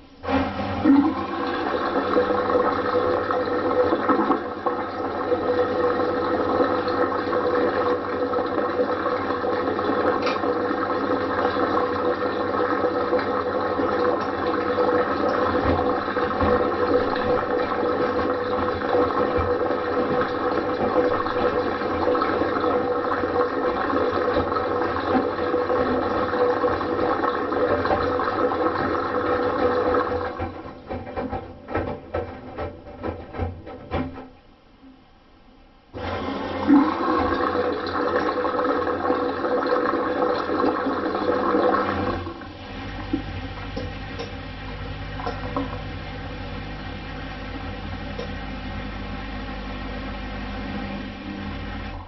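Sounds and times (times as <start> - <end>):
water swishing in washing machine drum: 0.0 - 34.5, 36.0 - 52.0
washing machine hum: 0.0 - 52.0.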